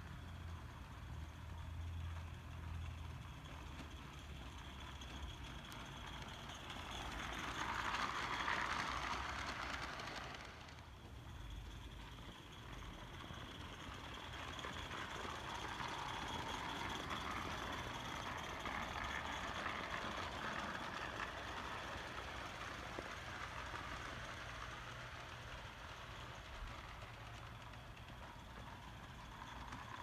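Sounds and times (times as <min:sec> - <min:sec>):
model steam locomotive running past: 0:00.0 - 0:30.0.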